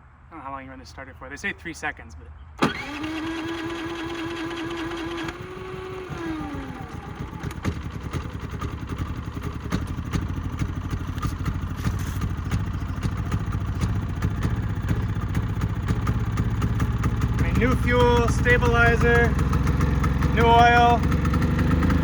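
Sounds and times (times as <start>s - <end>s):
electric starter whining: 2.6s - 22.0s
generator engine running: 2.6s - 22.0s.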